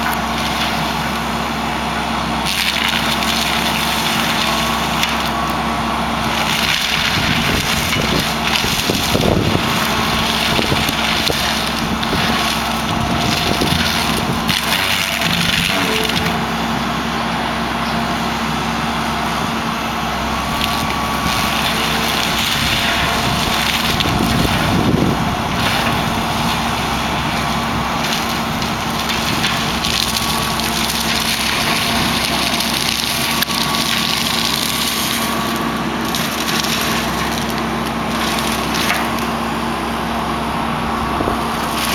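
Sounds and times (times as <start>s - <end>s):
diesel engine running: 0.0s - 41.9s
mulcher grinding wood: 0.0s - 41.9s.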